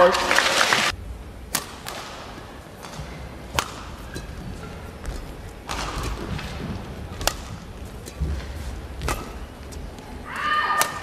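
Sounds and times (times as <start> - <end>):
racket hitting shuttlecock: 1.5 - 11.0.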